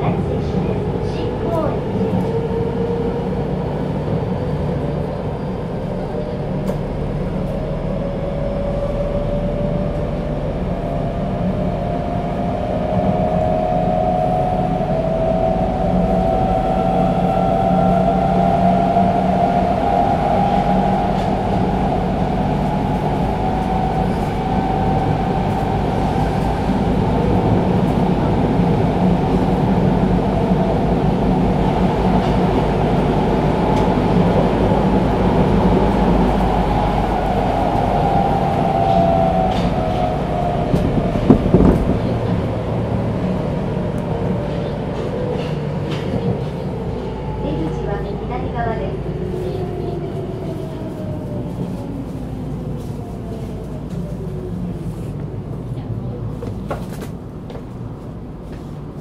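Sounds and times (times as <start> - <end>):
subway motor whine: 0.0 - 59.0
wheels rumbling on track: 0.0 - 59.0.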